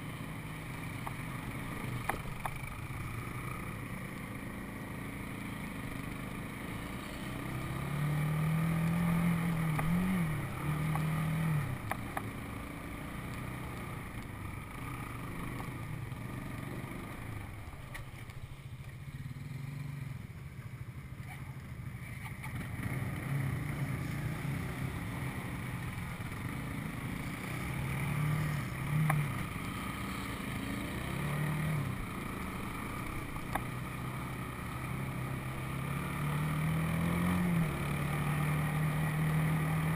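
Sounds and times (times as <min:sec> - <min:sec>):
atv engine revving: 0:00.0 - 0:20.2, 0:22.2 - 0:39.9.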